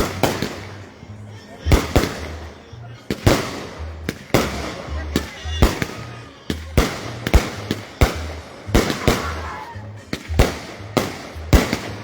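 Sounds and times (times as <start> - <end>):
fireworks bangs: 0.0 - 0.9, 1.7 - 12.0.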